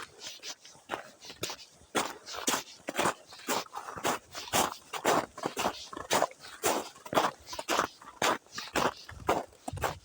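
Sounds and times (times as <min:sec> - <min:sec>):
footsteps scuffing crunch: 0:00.0 - 0:10.0.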